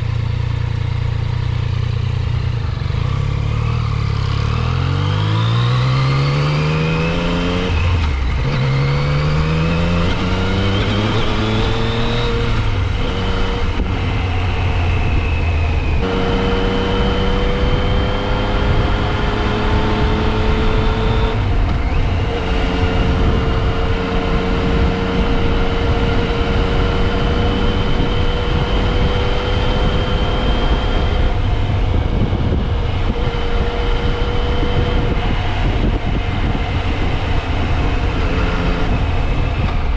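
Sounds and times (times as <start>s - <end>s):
motorcycle engine revving: 0.0s - 39.9s
wind rush: 5.2s - 39.9s.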